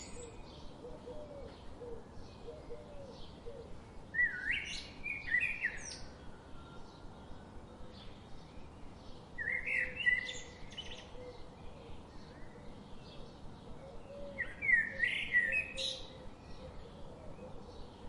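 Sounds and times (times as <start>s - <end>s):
bird song phrase: 0.0s - 18.0s
faint scattered bird chirps: 0.0s - 18.0s.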